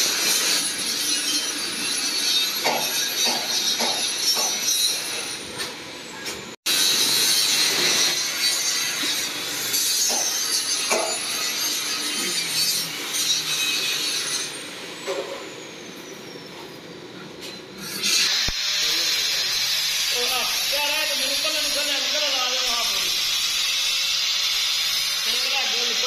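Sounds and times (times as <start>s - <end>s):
angle grinder grinding steel: 0.0s - 5.8s, 6.7s - 16.0s, 17.8s - 26.0s.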